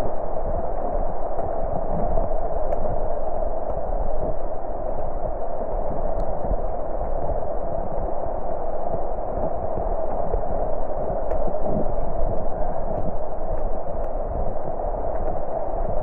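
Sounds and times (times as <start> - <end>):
low rumble: 0.0 - 16.0
muffled rushing noise: 0.0 - 16.0.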